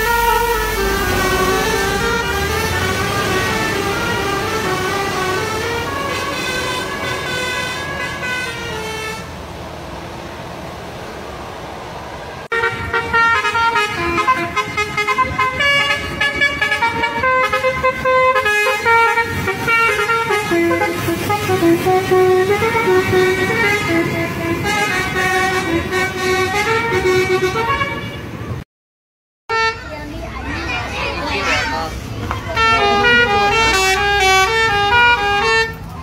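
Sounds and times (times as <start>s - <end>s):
multi-tone bus horn melody: 0.0s - 9.5s, 12.5s - 28.6s, 29.5s - 30.2s, 31.3s - 36.0s
vehicle noise: 0.0s - 28.6s, 29.5s - 36.0s.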